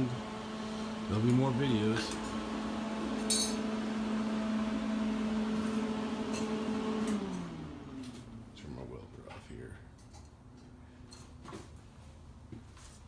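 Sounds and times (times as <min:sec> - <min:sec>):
welder fan humming: 0:00.0 - 0:10.7.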